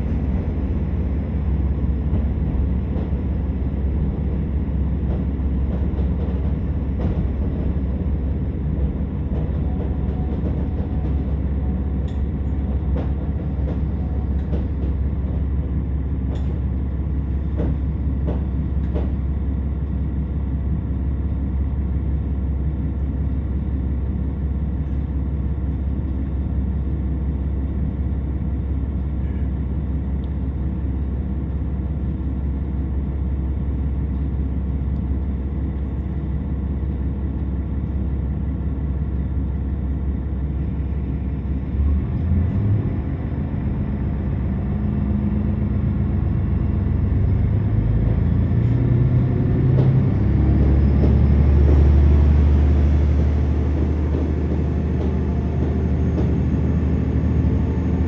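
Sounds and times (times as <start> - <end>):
train engine and wheels rumbling: 0.0 - 58.0.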